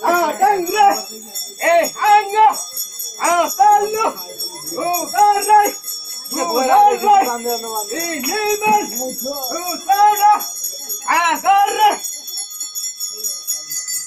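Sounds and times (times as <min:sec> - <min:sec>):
voices singing short phrases: 0:00.0 - 0:12.0
small bells jingling: 0:00.0 - 0:14.0.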